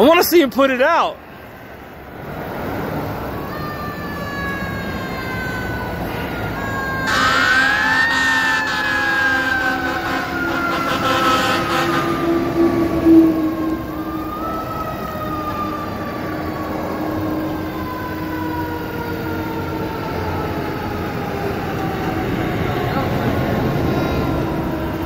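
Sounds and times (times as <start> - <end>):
highway traffic: 0.0 - 25.0
fire engine siren wailing: 2.8 - 25.0.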